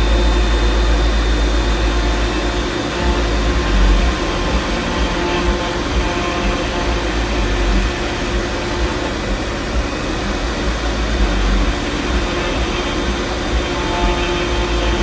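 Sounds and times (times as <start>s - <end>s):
router spindle humming and whirring: 0.0s - 15.0s.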